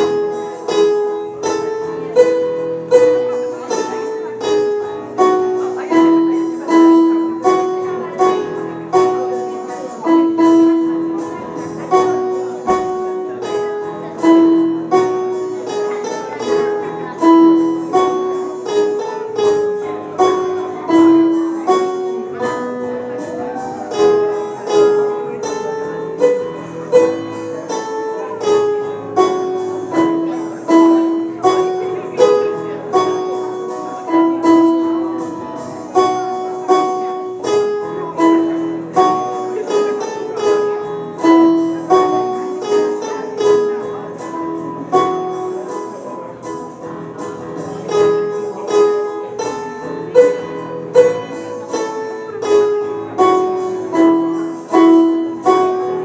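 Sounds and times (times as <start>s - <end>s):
electronic keyboard melody: 0.0s - 56.0s.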